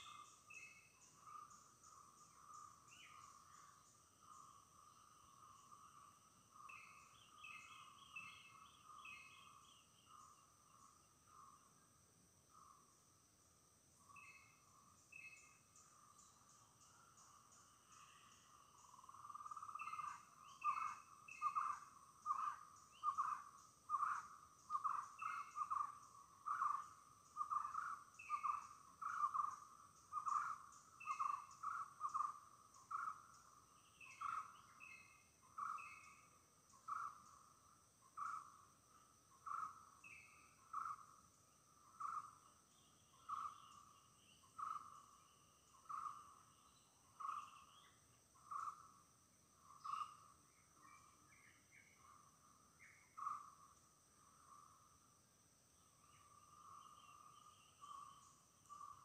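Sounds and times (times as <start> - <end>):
high insect drone: 0.0 - 59.0.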